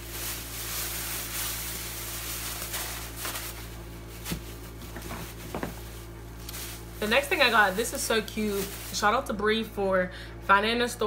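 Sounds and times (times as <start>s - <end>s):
bags rustling and handling: 0.0s - 9.4s
steady low hum: 0.0s - 11.0s.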